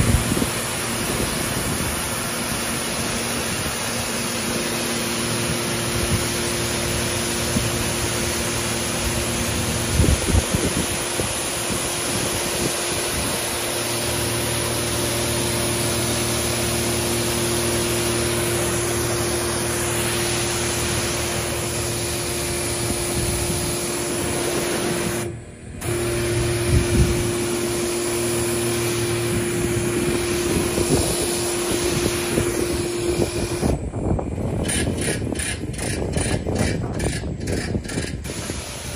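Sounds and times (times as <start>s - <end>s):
vacuum rushing hiss: 0.0s - 34.3s, 38.2s - 38.9s
steady hum: 0.0s - 38.9s.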